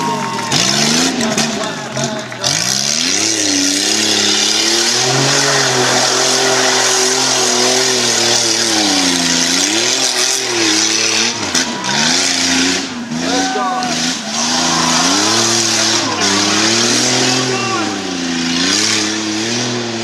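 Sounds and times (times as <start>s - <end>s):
engine revving hard: 0.0s - 20.0s.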